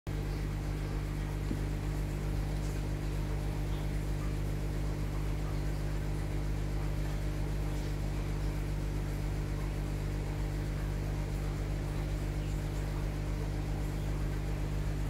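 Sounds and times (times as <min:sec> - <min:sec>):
aquarium air pump humming: 0:00.1 - 0:15.0.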